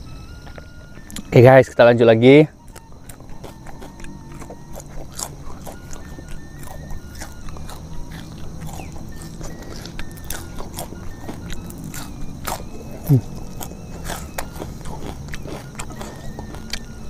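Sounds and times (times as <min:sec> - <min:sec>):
faint low hum: 0:00.0 - 0:17.0
chewing raw vegetables: 0:00.3 - 0:01.4, 0:02.5 - 0:17.0.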